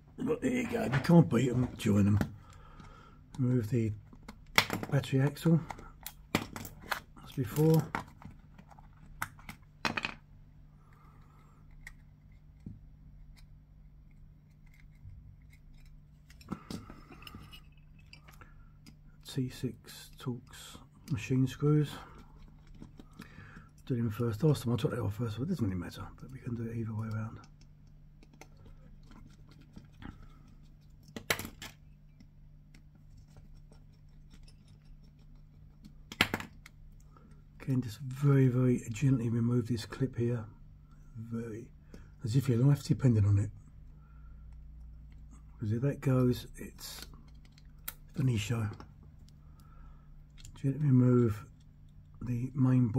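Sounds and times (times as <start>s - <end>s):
faint low hum: 0.0s - 52.9s.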